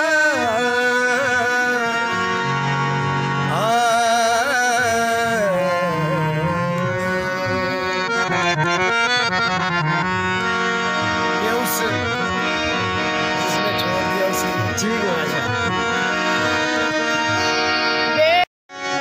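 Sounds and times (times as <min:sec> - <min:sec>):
man singing: 0:00.0 - 0:09.6, 0:11.4 - 0:17.2
harmonium playing reed chords: 0:00.0 - 0:19.0.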